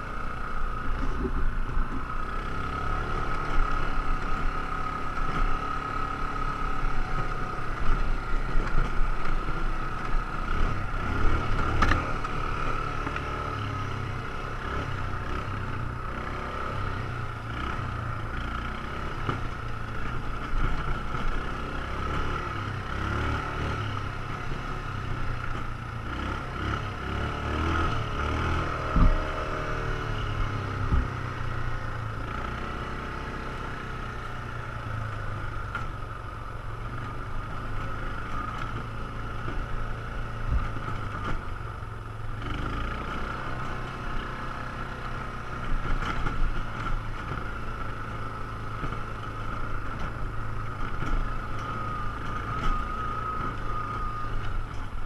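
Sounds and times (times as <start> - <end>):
quad engine running: 0.0 - 55.0.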